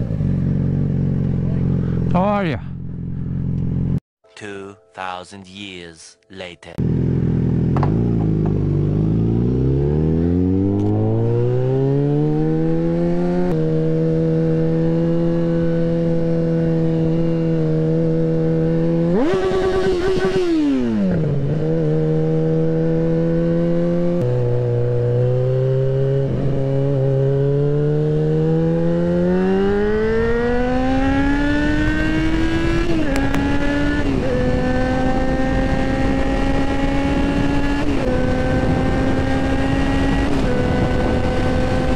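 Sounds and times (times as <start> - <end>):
motorcycle engine accelerating: 0.0 - 4.0, 6.8 - 41.9.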